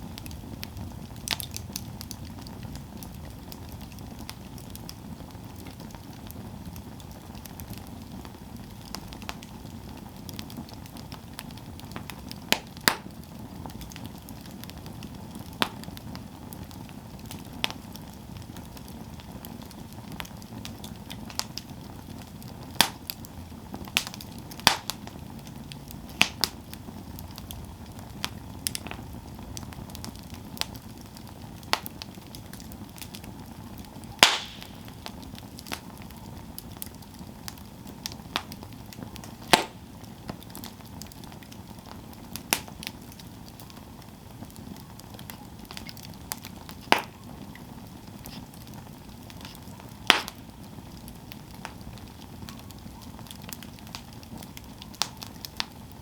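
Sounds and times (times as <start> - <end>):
campfire hissing: 0.0 - 56.0
fire pops and crackles: 0.0 - 56.0.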